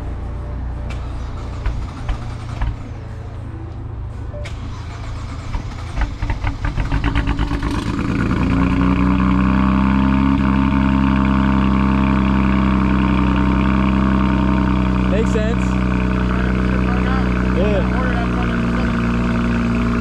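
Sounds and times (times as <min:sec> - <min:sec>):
car engine cranking and idling: 0:00.0 - 0:20.0.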